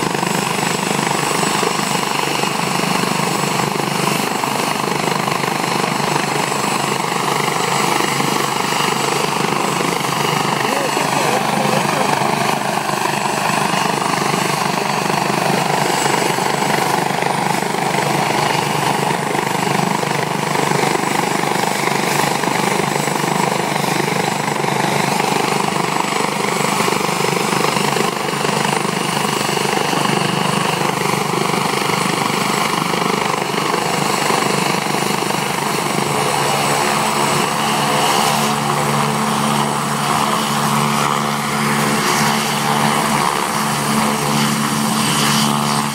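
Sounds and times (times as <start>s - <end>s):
helicopter turbine and rotor: 0.0s - 45.9s.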